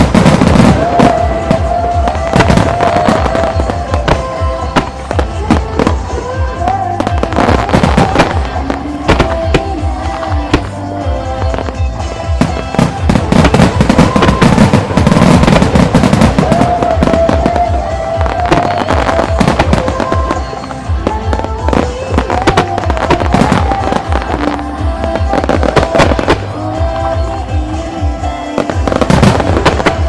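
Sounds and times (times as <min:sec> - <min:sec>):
fireworks bursting and crackling: 0:00.0 - 0:30.0
music with pulsing beat: 0:00.0 - 0:30.0.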